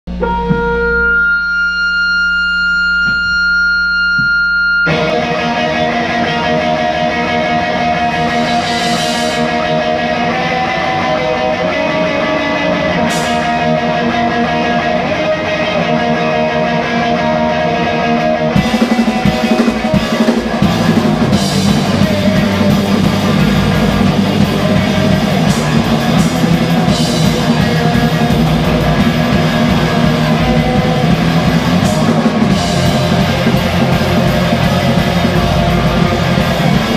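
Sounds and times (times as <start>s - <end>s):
electric guitar: 0.1s - 36.9s
rock band playing live: 0.1s - 36.9s.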